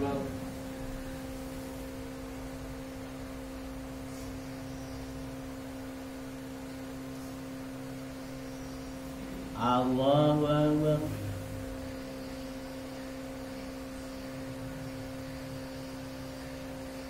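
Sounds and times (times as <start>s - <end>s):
faint higher hum: 0.0s - 17.0s
steady low hum: 0.0s - 17.0s.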